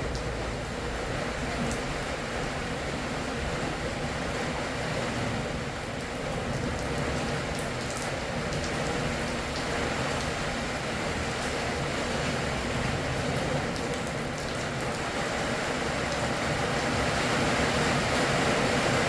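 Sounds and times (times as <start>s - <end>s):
raindrops ticking on surfaces: 0.0s - 19.0s
steady rain hiss: 0.0s - 19.0s.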